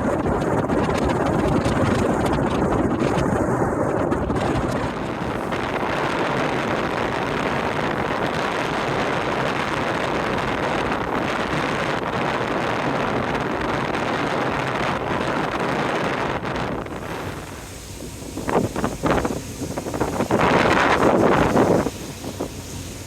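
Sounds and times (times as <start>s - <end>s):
ferry wash and running noise: 0.0s - 23.0s
wind rushing over microphone: 0.0s - 23.0s.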